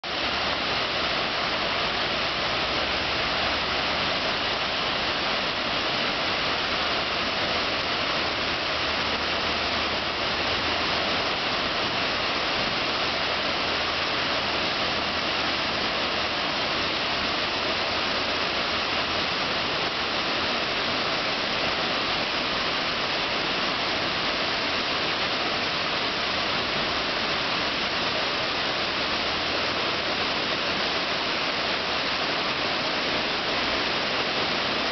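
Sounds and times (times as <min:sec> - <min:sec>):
waterfall rushing into pool: 0:00.0 - 0:34.9.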